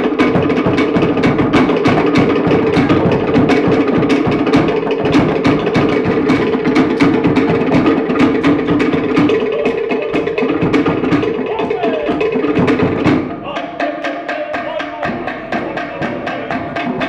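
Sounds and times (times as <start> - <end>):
large skin drum: 0.0 - 17.0
wooden slit log drums: 0.0 - 17.0.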